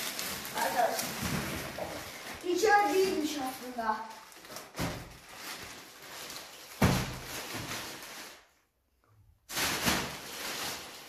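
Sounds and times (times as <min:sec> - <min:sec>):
cardboard packaging rustling: 0:00.0 - 0:08.6, 0:09.5 - 0:11.0.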